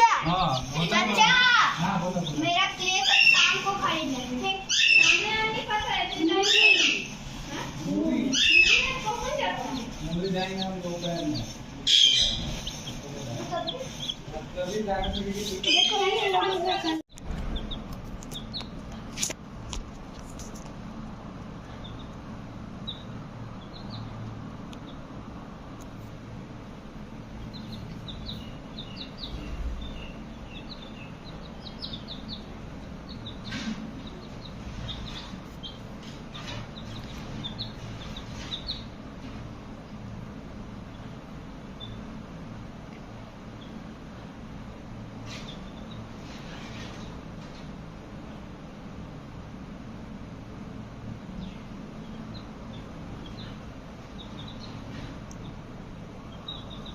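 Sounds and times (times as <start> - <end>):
baby chicks peeping: 0.0 - 56.9
steady low hum: 0.0 - 56.9.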